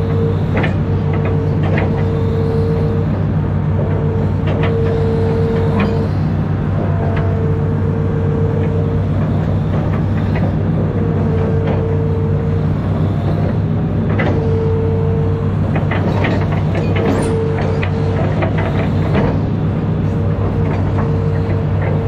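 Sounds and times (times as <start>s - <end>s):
diesel engine running under load: 0.0s - 22.0s
hydraulic whine: 0.0s - 22.0s.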